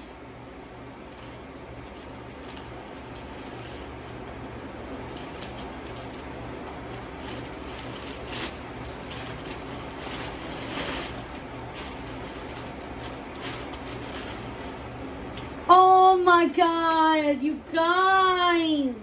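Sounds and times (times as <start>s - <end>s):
ceiling fan hum: 0.0s - 19.0s
plastic bag rustling and crinkling: 0.7s - 15.7s, 16.5s - 18.9s.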